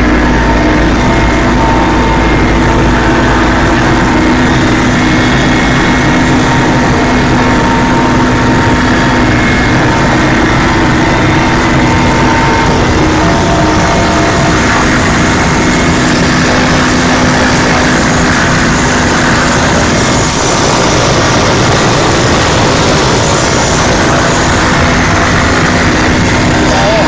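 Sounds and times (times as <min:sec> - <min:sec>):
helicopter engine and rotor noise: 0:00.0 - 0:27.0.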